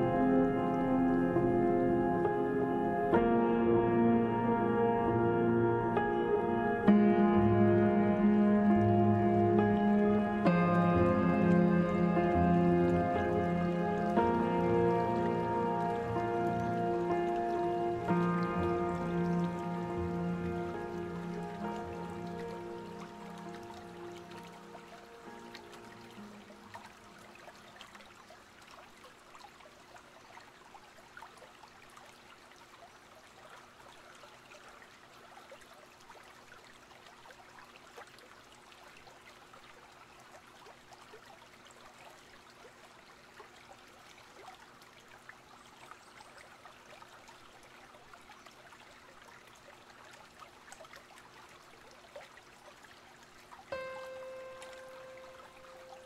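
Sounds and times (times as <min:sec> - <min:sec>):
water trickling and lapping: 0:07.8 - 0:56.0
small ticks and splashes: 0:07.9 - 0:56.0.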